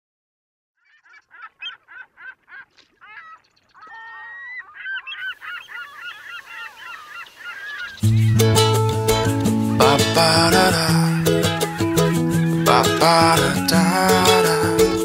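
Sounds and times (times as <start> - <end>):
birds honking calls: 0.8 - 15.0
flock of birds calling: 0.8 - 15.0.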